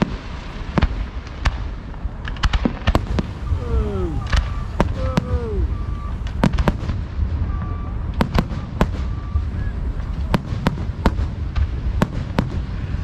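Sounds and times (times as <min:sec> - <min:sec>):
continuous low rumble: 0:00.0 - 0:13.0
fireworks bangs: 0:00.0 - 0:13.0.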